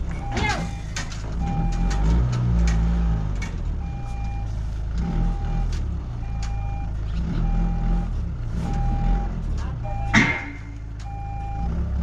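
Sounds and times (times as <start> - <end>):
truck engine running: 0.0 - 12.0
reverse alarm beeping: 0.1 - 2.1, 3.8 - 11.8.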